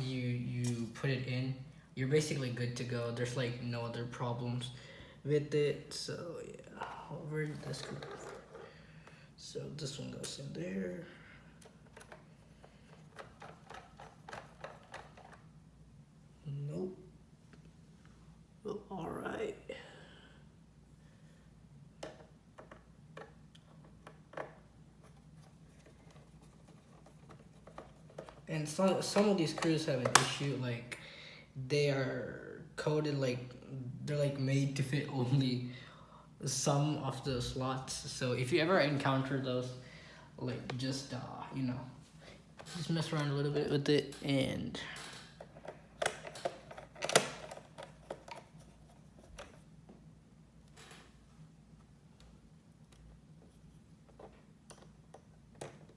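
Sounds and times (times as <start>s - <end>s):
faint low hum: 0.0s - 55.9s.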